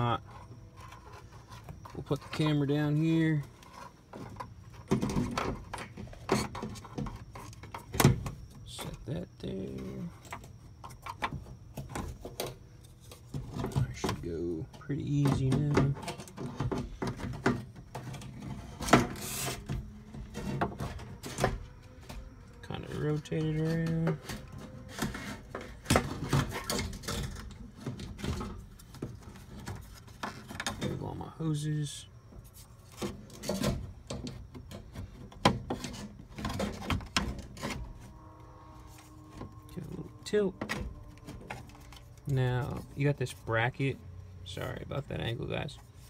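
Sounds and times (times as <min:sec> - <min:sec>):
scraping and knocking of parts: 0:00.0 - 0:46.0.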